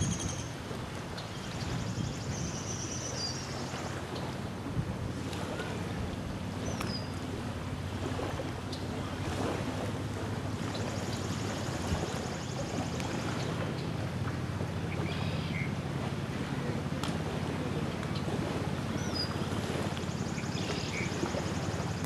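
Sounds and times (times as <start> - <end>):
waves lapping on shore: 0.0 - 22.0
wind on microphone: 0.0 - 22.0.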